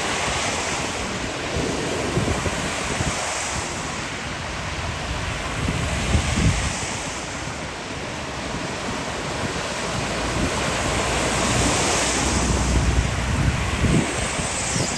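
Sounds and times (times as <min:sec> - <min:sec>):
storm wind and heavy rain: 0:00.0 - 0:14.9
wind buffeting microphone: 0:00.0 - 0:14.9.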